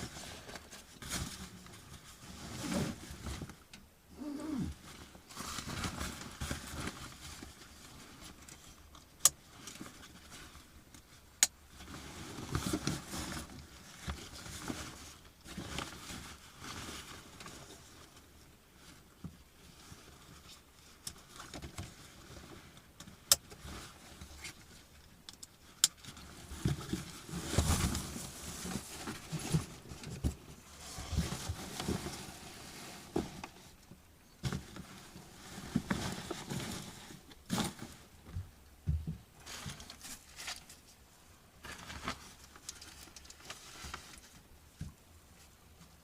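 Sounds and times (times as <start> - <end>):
rustling: 0.0 - 46.0.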